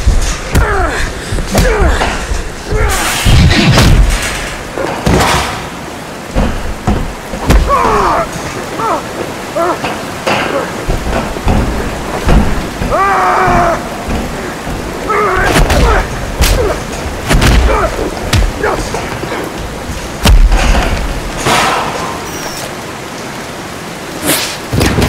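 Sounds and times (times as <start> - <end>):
hiss of falling water: 0.0 - 25.0.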